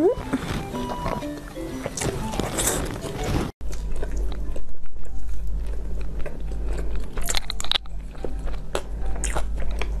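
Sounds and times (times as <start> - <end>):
chewing cake with mouth clicks: 0.0 - 10.0
low steady hum: 0.0 - 10.0
crisp crunches: 1.8 - 10.0.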